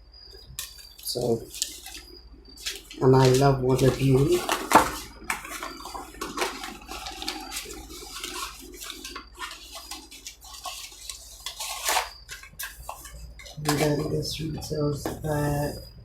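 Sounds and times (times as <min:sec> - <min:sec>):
packaging rustling and crackling: 0:00.5 - 0:15.6.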